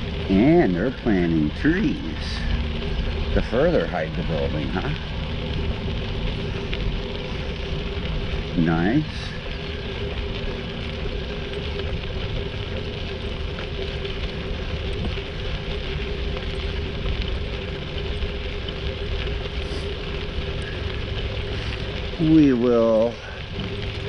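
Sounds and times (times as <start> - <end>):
bicycle tyres crunching on gravel: 0.0 - 24.0.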